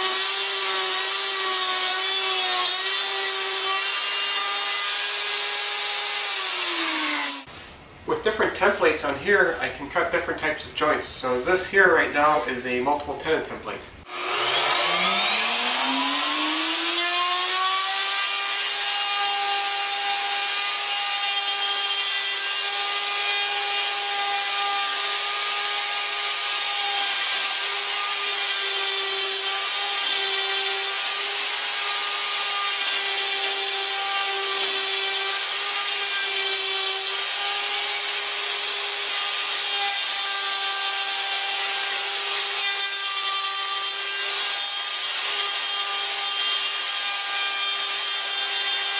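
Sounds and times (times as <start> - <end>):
router bit cutting wood: 0.0 - 7.5, 14.1 - 48.9
wood router whining: 0.0 - 7.6, 14.1 - 48.9.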